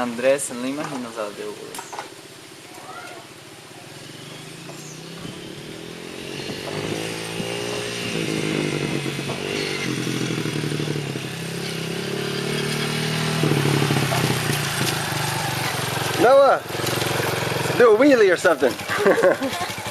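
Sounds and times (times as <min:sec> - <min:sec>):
motorcycle engine revving: 0:02.1 - 0:19.9.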